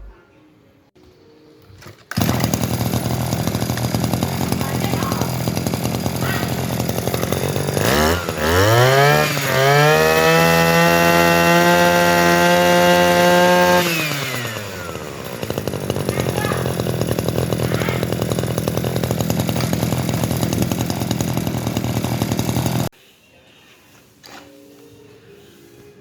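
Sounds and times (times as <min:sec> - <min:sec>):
two-stroke engine revving: 0:02.1 - 0:22.9.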